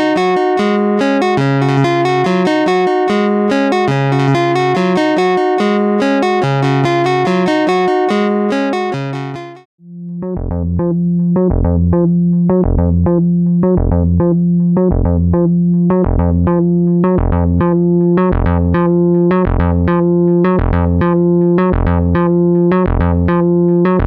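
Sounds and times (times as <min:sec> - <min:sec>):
synth stepped melody: 0:00.0 - 0:24.0.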